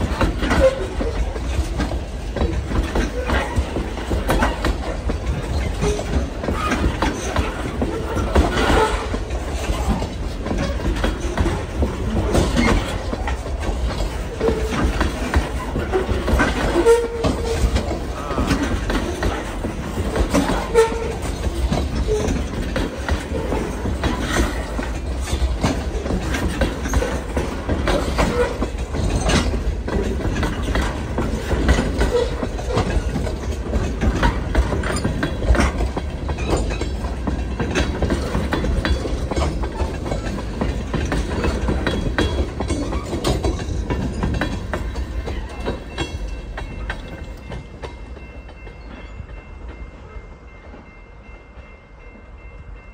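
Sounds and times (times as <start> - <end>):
wheels clacking over rails: 0.0 - 49.8
train wheels rumbling: 0.0 - 52.9.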